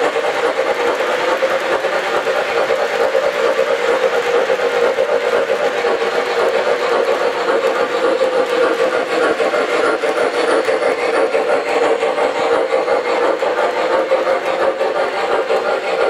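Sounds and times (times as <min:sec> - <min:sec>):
model train cars whirring on track: 0:00.0 - 0:16.0.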